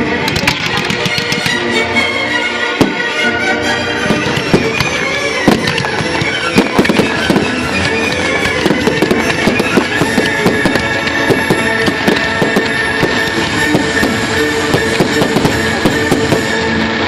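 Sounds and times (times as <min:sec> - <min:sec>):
fireworks bangs and crackles: 0:00.0 - 0:01.8, 0:02.6 - 0:03.2, 0:03.9 - 0:17.0
loud music: 0:00.0 - 0:17.0.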